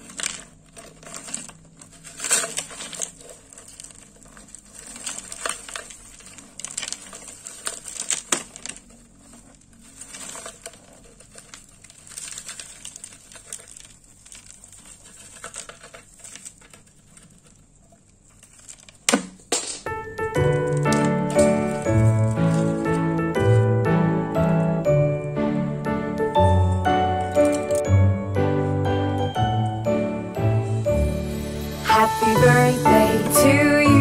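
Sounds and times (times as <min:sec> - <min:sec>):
crushed ice crunching: 0:00.0 - 0:25.3, 0:26.2 - 0:34.0.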